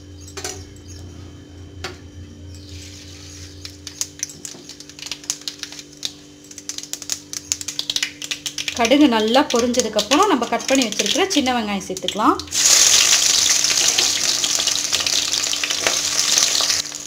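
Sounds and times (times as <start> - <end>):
oil sizzling: 2.7 - 17.0
seeds crackling and popping: 2.7 - 17.0.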